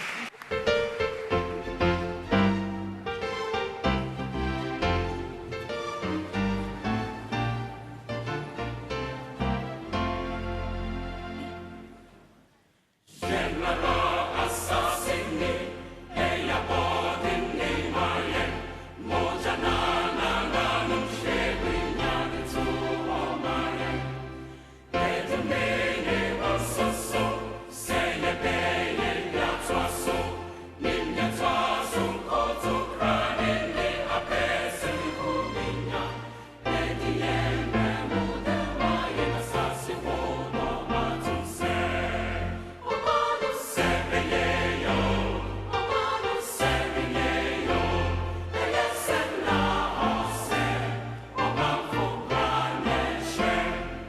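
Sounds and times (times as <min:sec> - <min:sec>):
choir singing with instruments: 0:00.0 - 0:54.0.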